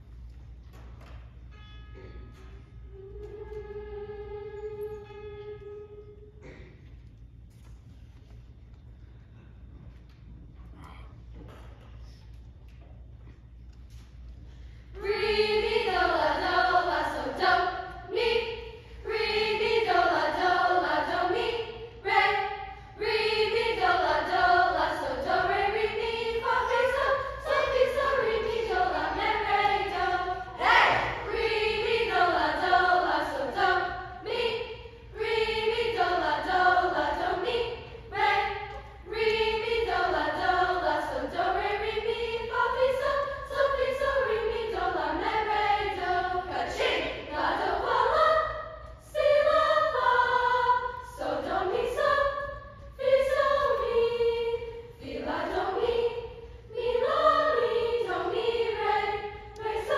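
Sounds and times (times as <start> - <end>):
choir singing: 2.9 - 6.6, 14.9 - 59.9.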